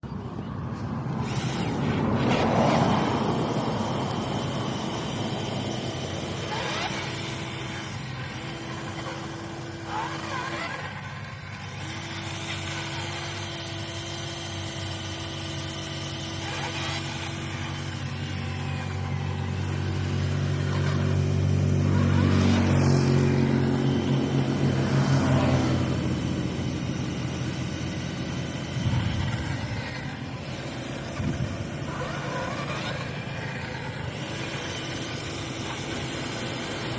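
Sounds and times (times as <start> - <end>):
motors whining: 0.0 - 36.9.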